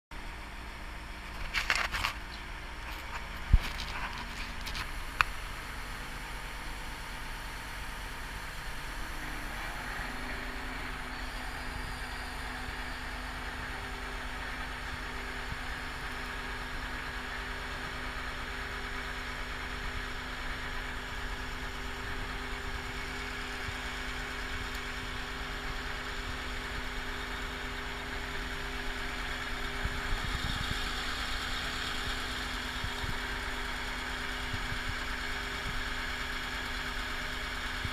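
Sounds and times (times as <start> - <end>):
steady hum: 0.2 - 36.0
crane engine running: 0.2 - 37.9.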